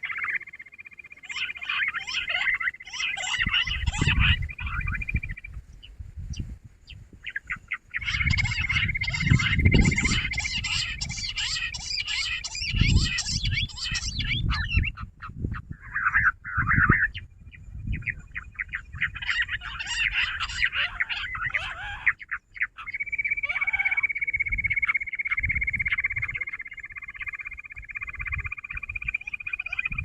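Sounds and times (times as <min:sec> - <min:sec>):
quail chirping and trilling: 0:00.0 - 0:30.0.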